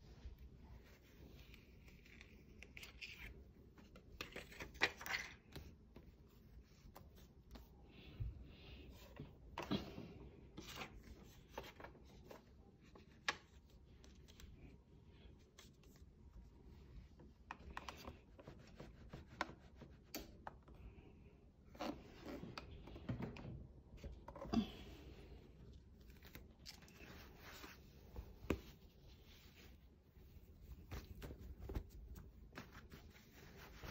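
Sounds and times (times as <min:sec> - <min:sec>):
rustling of craft materials: 0:00.0 - 0:33.9.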